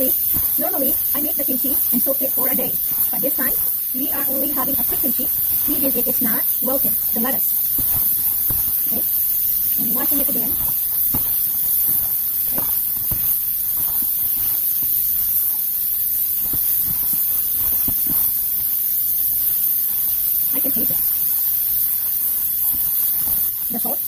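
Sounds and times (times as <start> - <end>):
hands rubbing wet leaves: 0.0 - 24.0
tap water running: 0.0 - 24.0.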